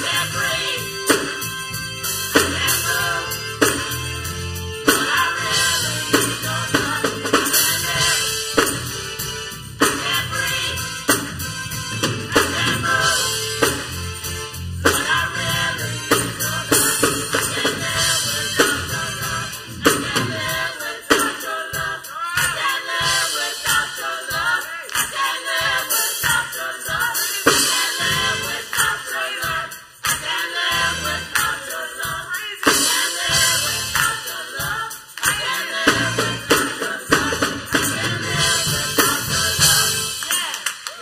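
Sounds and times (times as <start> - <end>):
choir singing gospel: 0.0 - 40.9
drum kit beat: 0.0 - 40.9.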